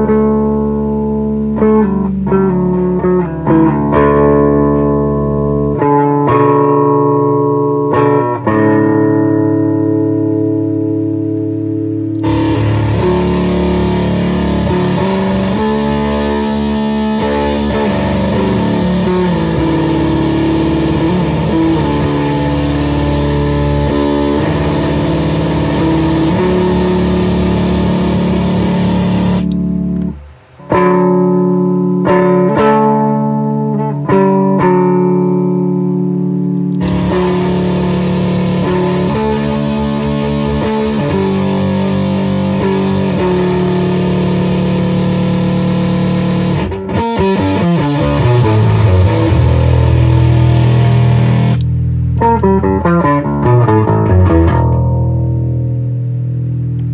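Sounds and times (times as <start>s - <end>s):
fuzzed electric bass riffs: 0.0s - 56.9s.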